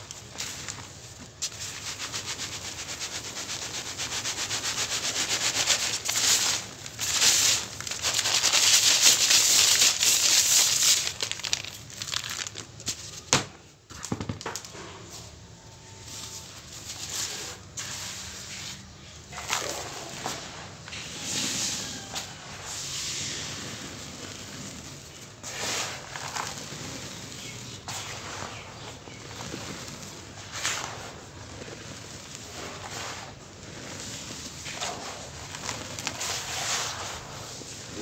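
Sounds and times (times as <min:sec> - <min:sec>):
cement powder rattling through colander: 0:00.0 - 0:12.8, 0:16.1 - 0:38.0.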